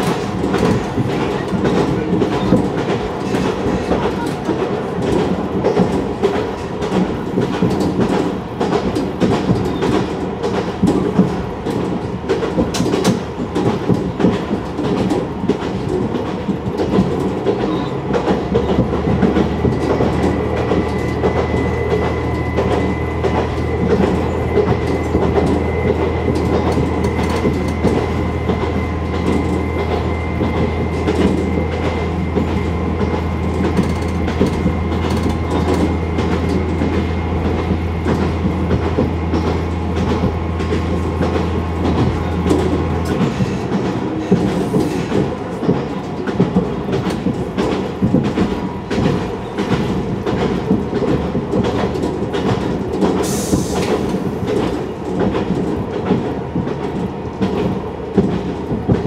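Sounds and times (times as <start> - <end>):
railcar running noise: 0.0 - 59.0
wheels clicking over rail joints: 0.0 - 59.0.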